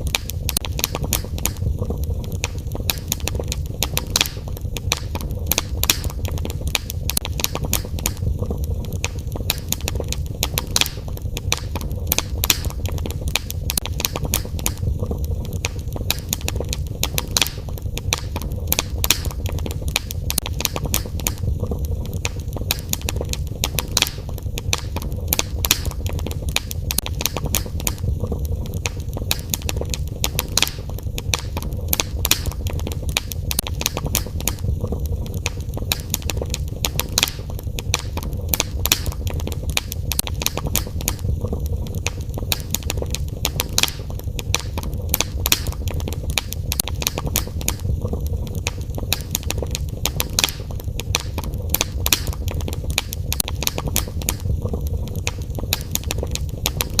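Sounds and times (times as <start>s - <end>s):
low rush of flames: 0.0s - 57.0s
wood fire popping and snapping: 0.0s - 57.0s.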